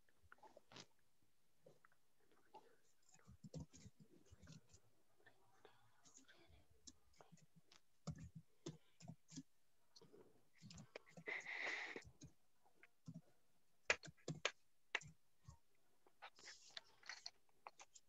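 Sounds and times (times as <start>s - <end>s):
faint clicks and taps: 1.6s - 18.0s.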